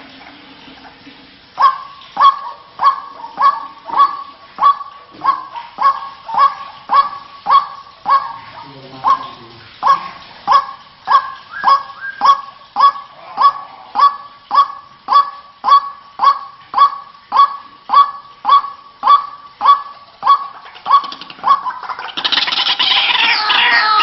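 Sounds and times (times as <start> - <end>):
bird honking call: 1.6 - 24.0.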